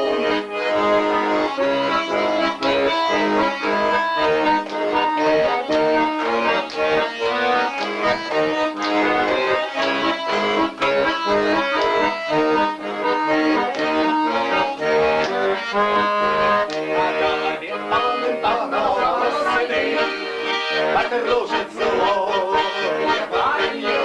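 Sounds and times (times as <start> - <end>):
accordion playing: 0.0 - 24.0.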